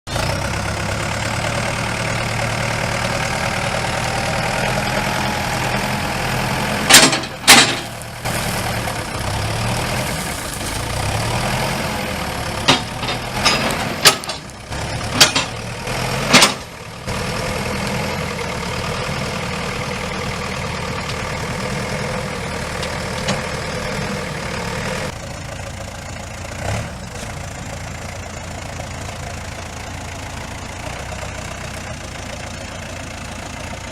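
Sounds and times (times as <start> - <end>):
diesel engine running and revving: 0.0 - 33.9.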